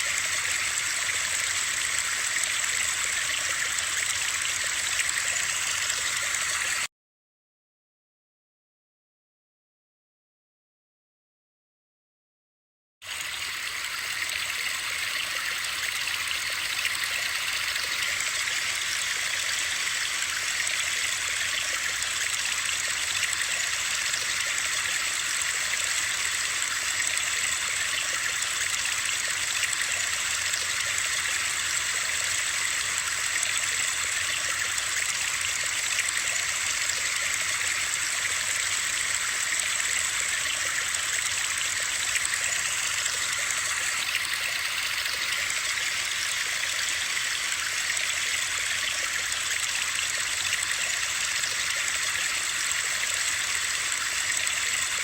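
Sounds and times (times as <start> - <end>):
running water hiss: 0.0 - 6.9, 13.0 - 55.0.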